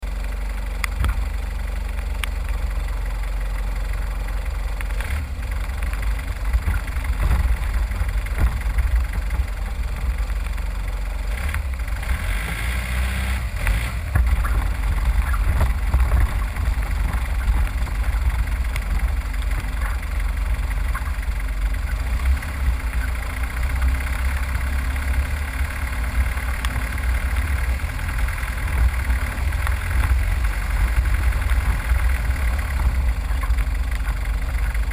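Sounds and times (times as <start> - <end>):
vehicle engine rumbling: 0.0 - 34.9.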